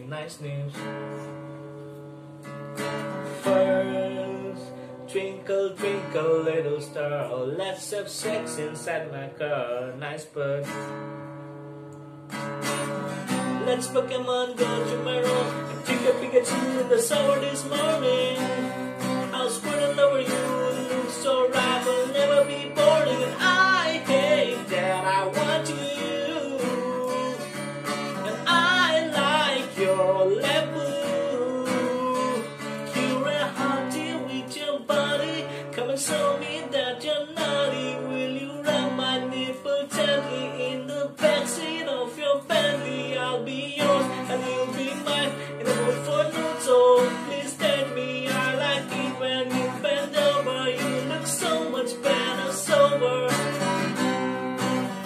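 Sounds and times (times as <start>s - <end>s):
man singing pop melody: 0.0s - 1.4s, 3.2s - 11.0s, 12.8s - 55.0s
acoustic guitar strumming: 0.0s - 55.0s.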